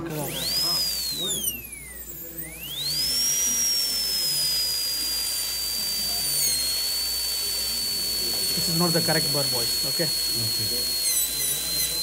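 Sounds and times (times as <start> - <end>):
dental drill whining: 0.0 - 12.0.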